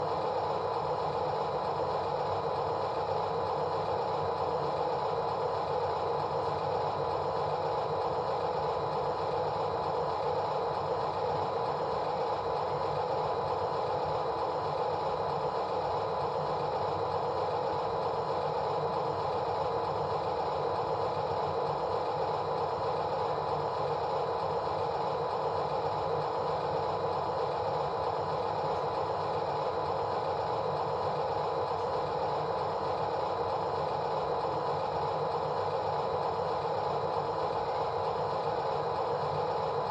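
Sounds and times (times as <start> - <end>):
steady mechanical drone: 0.0 - 39.9.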